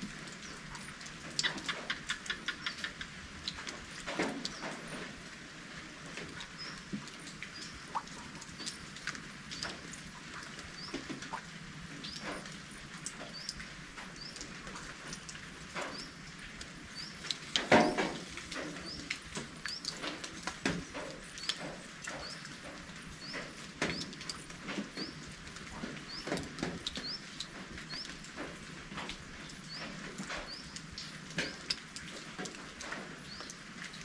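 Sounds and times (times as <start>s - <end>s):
raindrops dripping and pattering: 0.0s - 34.0s.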